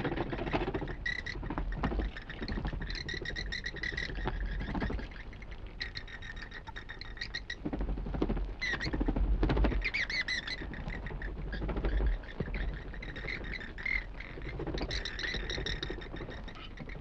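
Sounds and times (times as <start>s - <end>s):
bats squeaking and chittering: 0.0s - 7.8s, 8.6s - 17.0s.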